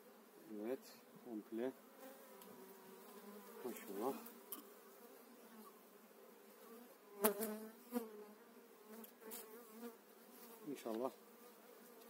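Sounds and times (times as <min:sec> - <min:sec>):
bees buzzing: 0:01.8 - 0:12.0.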